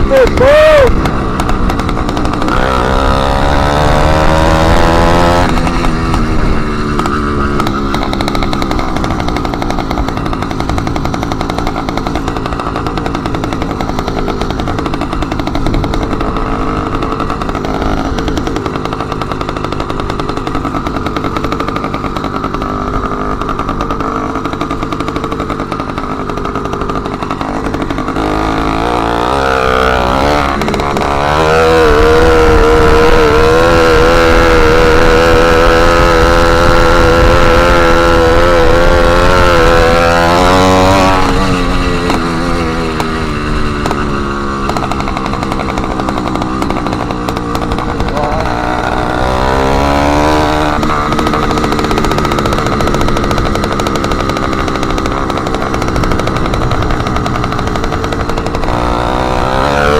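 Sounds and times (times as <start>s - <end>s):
small motorbike engine running loud: 0.0s - 59.9s.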